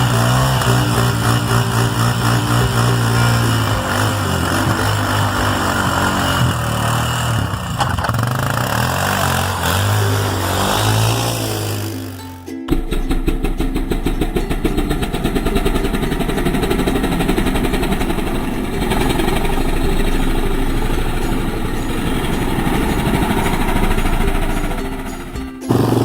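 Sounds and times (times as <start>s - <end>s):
vehicle engine pulsing: 0.0s - 26.0s.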